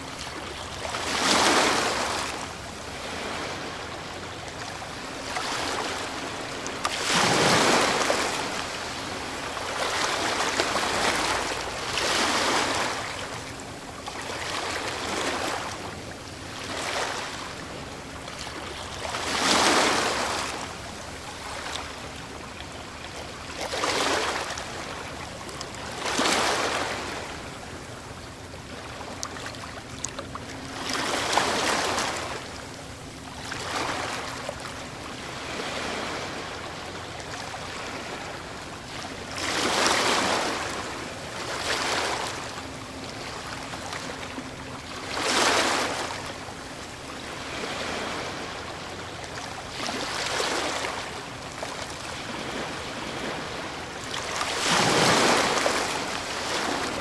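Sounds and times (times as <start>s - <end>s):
steady hiss of surf: 0.0s - 29.2s, 30.5s - 57.0s
ocean waves breaking: 0.0s - 57.0s.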